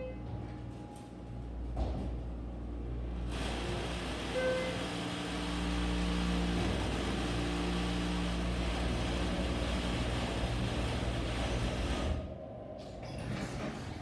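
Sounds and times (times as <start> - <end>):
elevator humming drone: 0.0 - 14.0
elevator rushing noise: 0.0 - 14.0.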